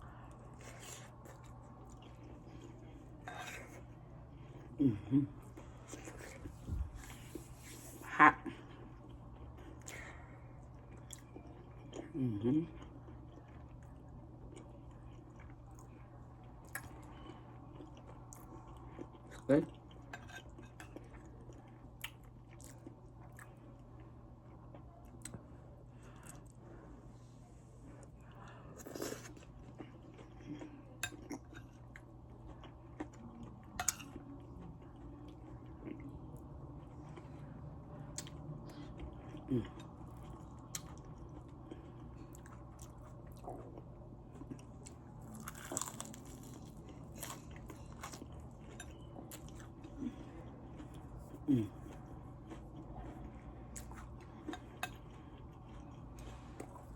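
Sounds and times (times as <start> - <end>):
person chewing food: 0.1 - 26.7, 27.8 - 56.9.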